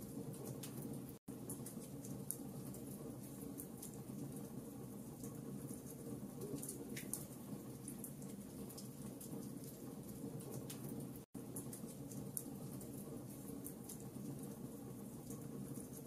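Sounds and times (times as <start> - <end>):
fire rumbling: 0.0 - 16.0
fire crackles and pops: 0.1 - 16.0.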